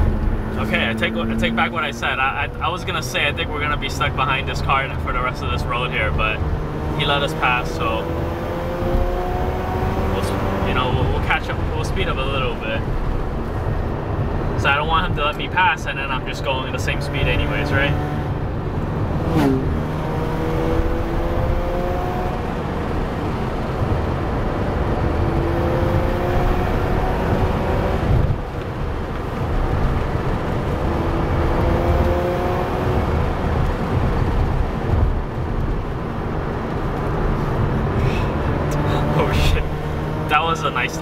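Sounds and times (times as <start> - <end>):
rotary engine accelerating: 0.0 - 41.0.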